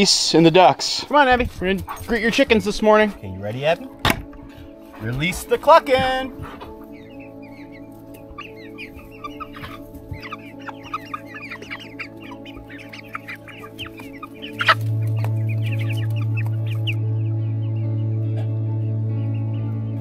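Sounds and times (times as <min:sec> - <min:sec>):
background music with low note: 0:00.0 - 0:20.0
chickens clucking: 0:00.4 - 0:18.6.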